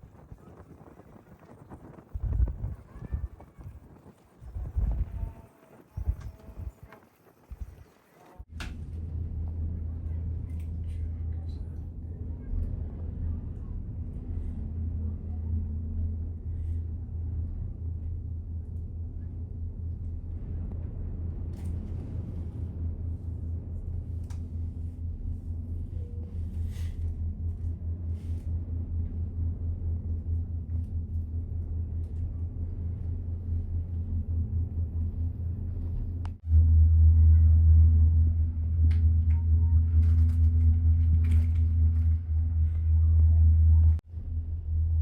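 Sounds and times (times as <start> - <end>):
gondola cabin rumbling on cable: 0.0 - 45.0.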